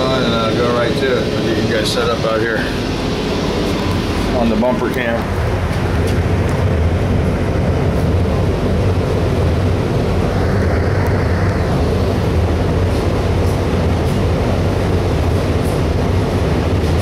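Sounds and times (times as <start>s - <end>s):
rush of moving air: 0.0s - 17.0s
ventilation fan humming: 0.0s - 17.0s.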